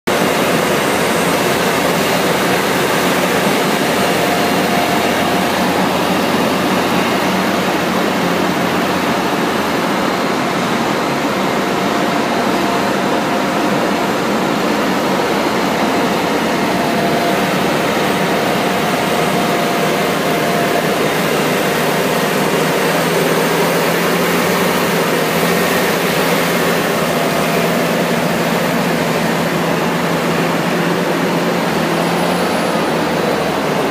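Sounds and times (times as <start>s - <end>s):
loud machine drone: 0.0s - 33.9s
faint machine whine: 0.1s - 33.9s.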